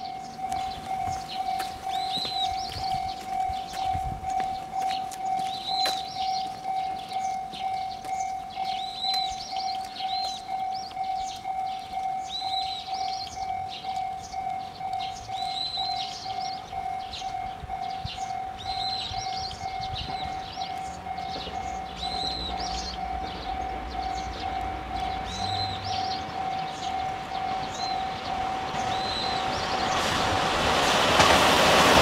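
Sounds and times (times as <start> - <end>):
level-crossing alarm ringing: 0.0 - 30.7
diesel railcar engine rumble: 0.0 - 32.0.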